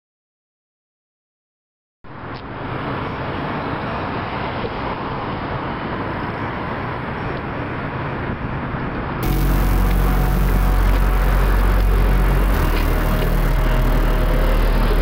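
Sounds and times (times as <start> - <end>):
street traffic noise: 2.0 - 15.0.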